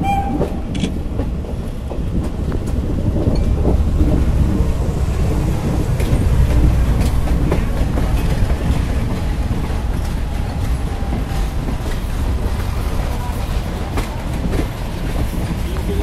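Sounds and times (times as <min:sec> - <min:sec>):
train wheels rumbling on rail: 0:00.0 - 0:16.0
clacks over rail joints: 0:00.2 - 0:16.0.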